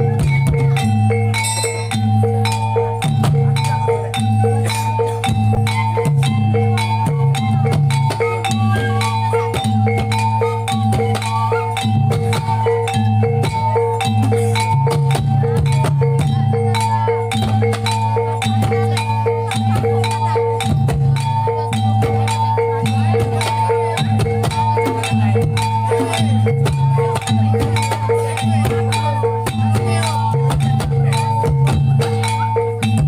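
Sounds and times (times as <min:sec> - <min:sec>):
gongs ringing a repeating pattern: 0:00.0 - 0:33.0.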